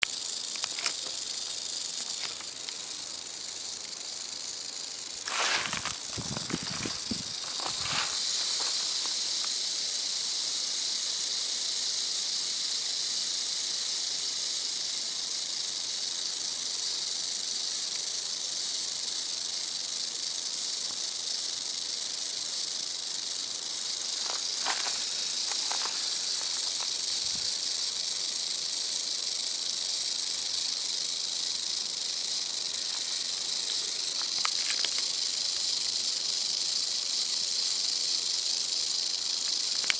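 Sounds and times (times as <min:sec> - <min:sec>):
rattlesnake rattling: 0:00.0 - 0:39.9.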